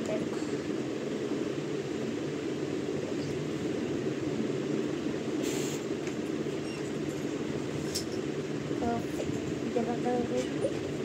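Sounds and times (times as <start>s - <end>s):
low rumbling background noise: 0.0s - 11.0s.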